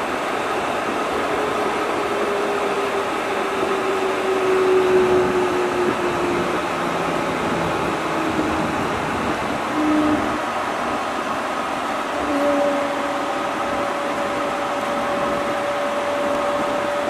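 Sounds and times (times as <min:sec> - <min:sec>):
train cabin running noise: 0:00.0 - 0:17.0.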